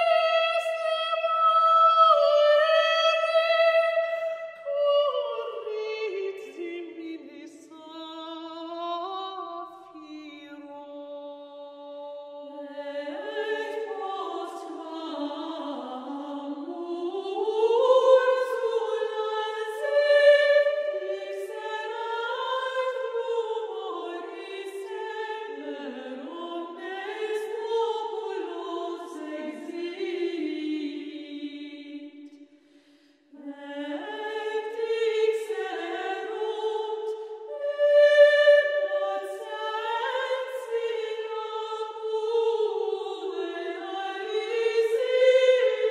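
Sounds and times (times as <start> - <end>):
slow choral singing: 0.0 - 45.9.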